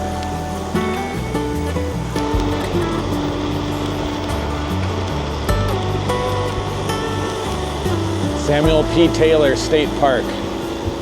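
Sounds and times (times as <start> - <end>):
background music with bass line: 0.0 - 11.0
road noise from riding: 0.0 - 11.0
wind noise: 0.0 - 11.0.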